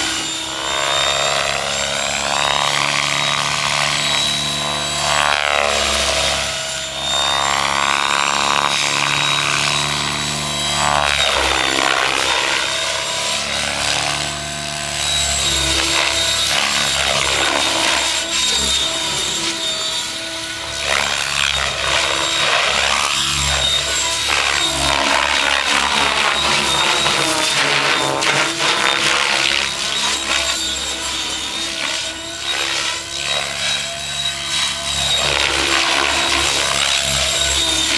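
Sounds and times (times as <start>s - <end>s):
electric motor and gears whining: 0.0s - 37.9s
helicopter rotor blades chopping: 0.0s - 37.9s.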